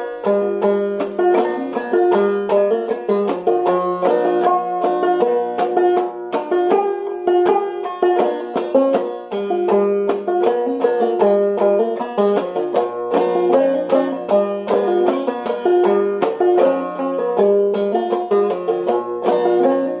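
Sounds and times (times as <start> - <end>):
banjo playing: 0.0 - 20.0.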